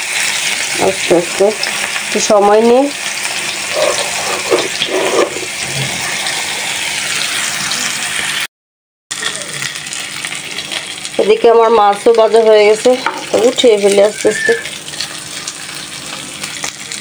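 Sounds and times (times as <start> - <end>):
fish sizzling in hot oil: 0.0 - 8.5, 9.1 - 17.0.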